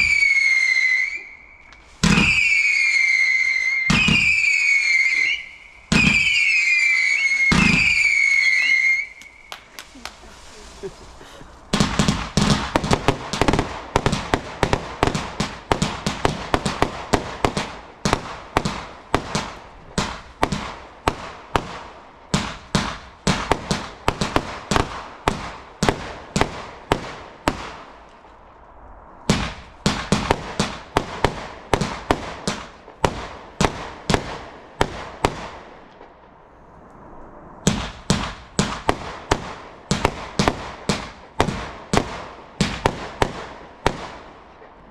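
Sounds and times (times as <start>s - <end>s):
fireworks sharp bangs: 0.0s - 36.4s, 37.6s - 44.9s.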